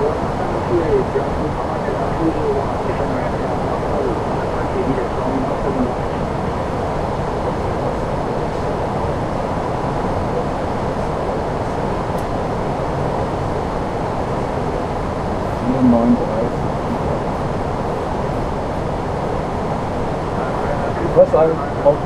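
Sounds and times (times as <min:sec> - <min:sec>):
cockpit airflow and engine noise: 0:00.0 - 0:22.0.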